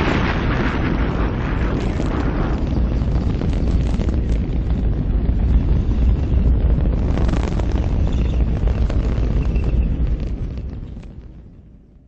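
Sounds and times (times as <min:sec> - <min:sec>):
crackling and popping: 0:00.0 - 0:12.0
explosion low rumble: 0:00.0 - 0:12.0.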